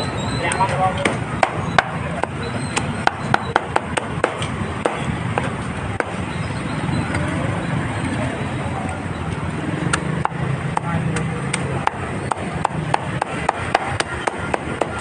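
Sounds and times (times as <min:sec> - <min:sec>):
street noise hum: 0:00.0 - 0:15.0.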